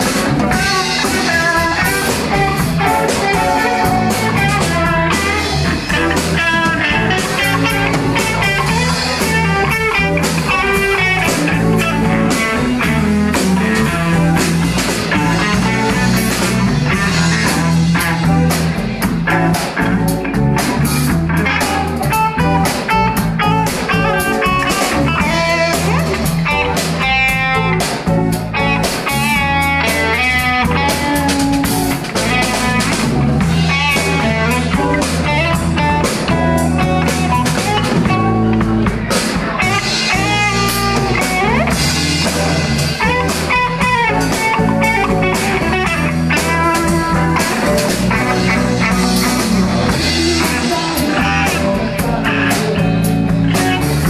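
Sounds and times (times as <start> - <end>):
drum kit: 0.0 - 54.0
electric bass: 0.0 - 54.0
electric guitar lines: 0.0 - 54.0.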